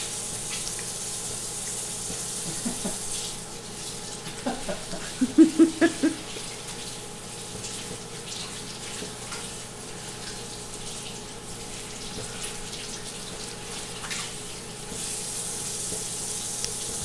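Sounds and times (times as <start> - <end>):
steady hiss and hum: 0.0 - 8.8, 9.6 - 17.0.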